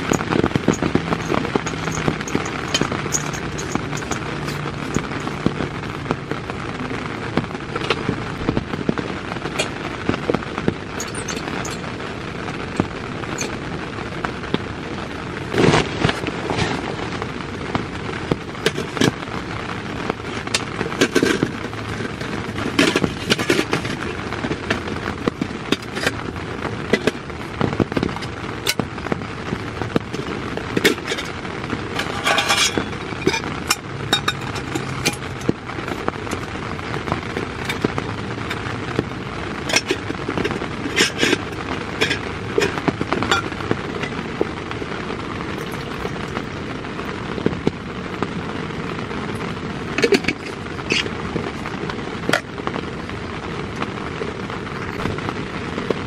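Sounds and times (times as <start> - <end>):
heavy rain on a tent: 0.0 - 56.0
raindrops tapping on fabric: 0.0 - 56.0.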